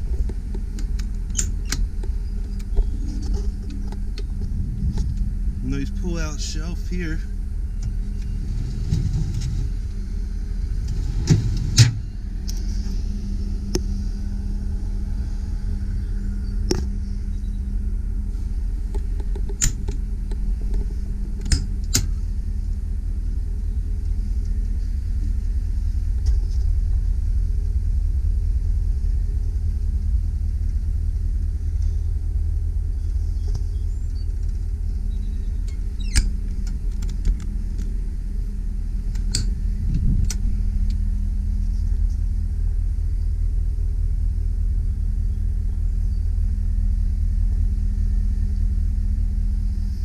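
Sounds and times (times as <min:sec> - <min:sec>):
truck idling: 0:00.0 - 0:50.0.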